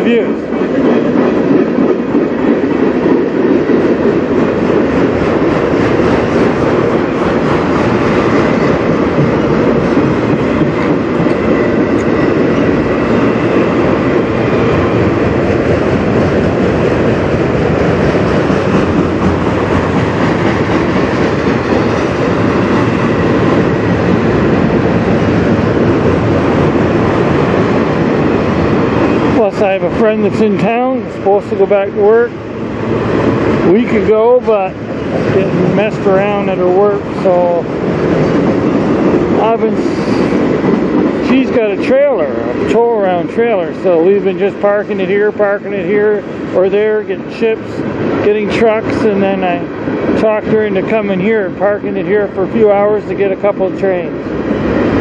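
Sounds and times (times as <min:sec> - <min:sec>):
freight cars rumbling on rails: 0:00.0 - 0:55.0.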